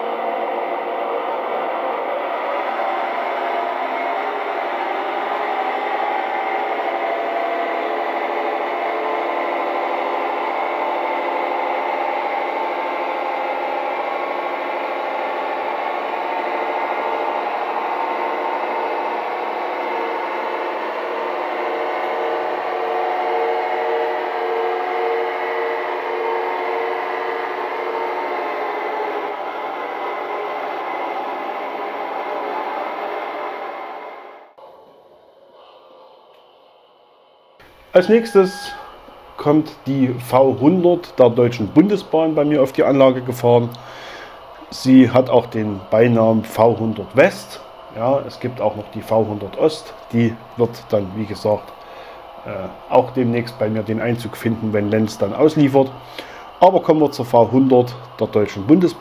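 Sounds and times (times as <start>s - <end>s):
model diesel engine sound throbbing: 1.1s - 32.2s, 37.7s - 59.0s.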